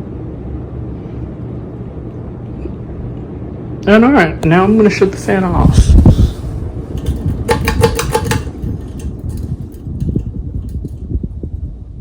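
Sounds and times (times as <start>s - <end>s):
ceiling fan airflow rushing: 0.0s - 12.0s.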